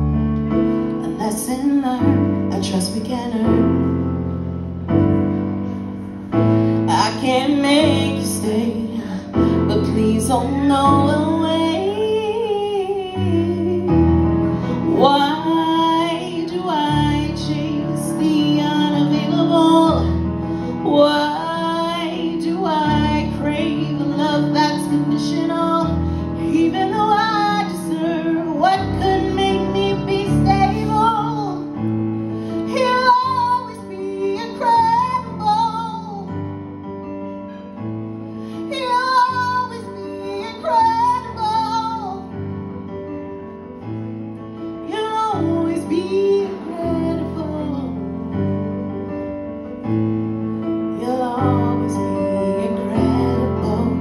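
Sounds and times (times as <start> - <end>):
woman singing: 0.9 - 4.0, 6.8 - 36.5, 38.5 - 42.4, 44.8 - 48.6, 50.8 - 54.0.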